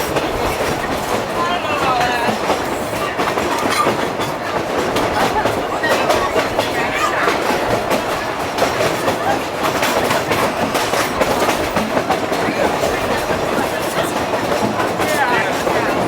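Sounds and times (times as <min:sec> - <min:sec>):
train coach rumbling: 0:00.0 - 0:16.0
wheels clacking over rail joints: 0:00.0 - 0:16.0.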